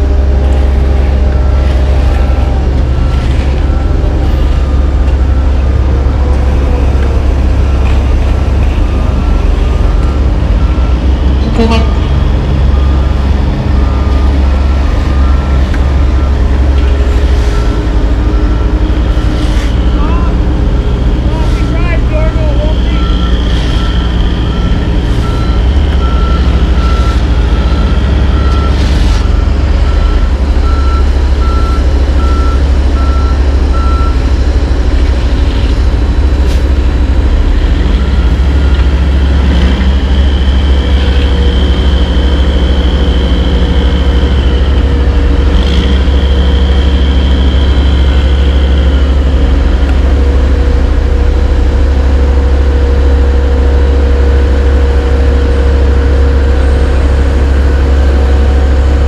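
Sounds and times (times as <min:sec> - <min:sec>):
reversing alarm beeping: 0:00.0 - 0:35.0, 0:35.9 - 0:59.0
diesel engines running: 0:00.0 - 0:59.0.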